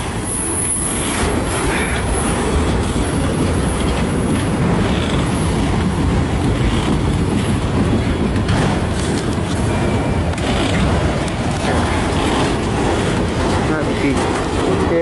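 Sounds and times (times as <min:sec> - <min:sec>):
freight train rolling past: 0:00.0 - 0:15.0
wheels clicking over rail joints: 0:00.0 - 0:15.0.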